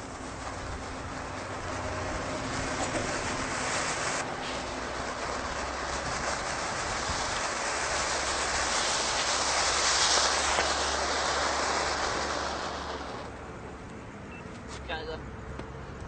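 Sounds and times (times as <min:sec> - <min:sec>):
firework hissing and crackling: 0:00.0 - 0:16.0.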